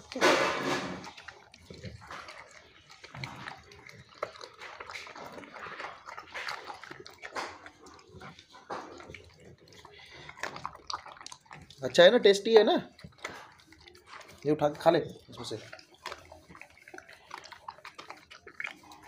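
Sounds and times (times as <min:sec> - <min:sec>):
dog chewing and crunching bones: 0:00.0 - 0:19.0
wet mouth sounds: 0:00.0 - 0:19.0.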